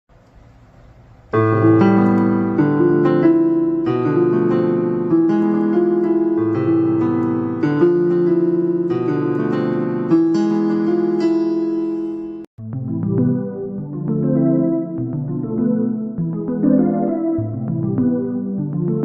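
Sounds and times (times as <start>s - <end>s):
electric piano chords: 1.3s - 19.0s.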